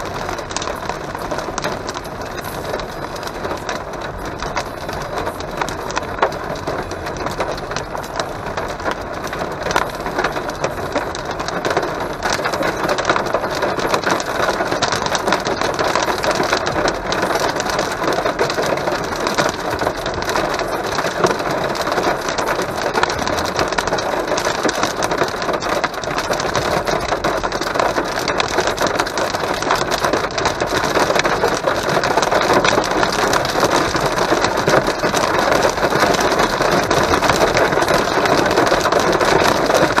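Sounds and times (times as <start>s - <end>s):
rain and hail drumming on car roof: 0.0s - 40.0s.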